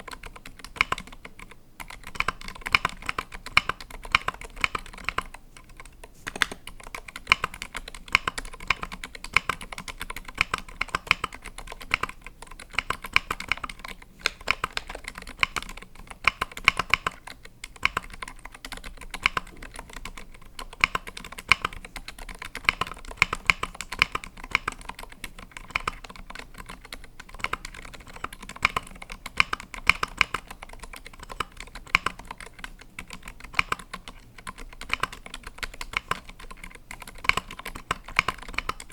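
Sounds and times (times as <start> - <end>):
soft keystrokes on keyboard: 0.0 - 38.9.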